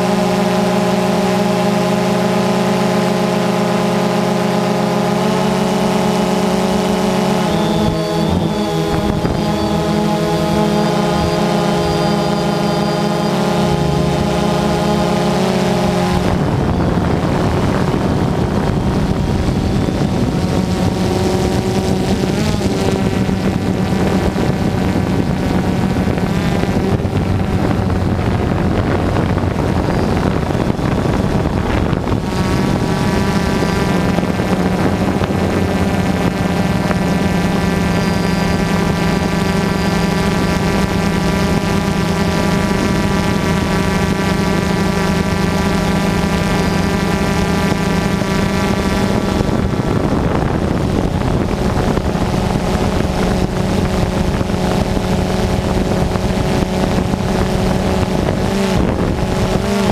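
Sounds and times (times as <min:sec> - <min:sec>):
aircraft motors droning whine: 0:00.0 - 0:59.9
wind on microphone: 0:00.0 - 0:59.9.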